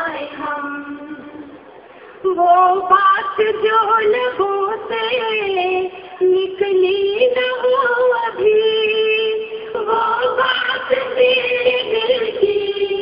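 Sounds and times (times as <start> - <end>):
women singing: 0.0 - 1.4, 2.3 - 13.0.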